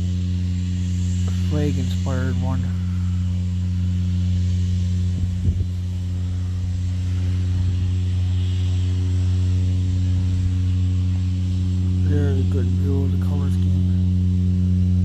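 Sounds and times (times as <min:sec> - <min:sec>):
piston engine idling: 0:00.0 - 0:15.0.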